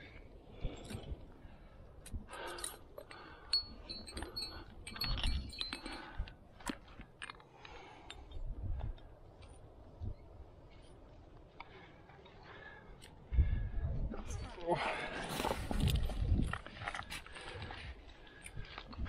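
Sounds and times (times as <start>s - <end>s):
metal climbing gear clinking: 0.6s - 1.3s, 2.0s - 13.2s, 14.1s - 19.0s.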